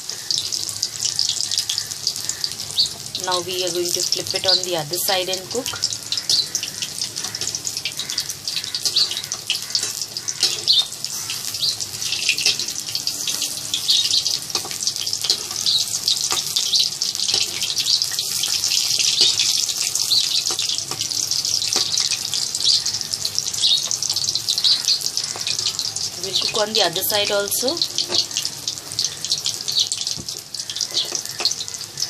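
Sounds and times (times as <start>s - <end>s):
deep-frying sizzle with pops: 0.0s - 32.0s.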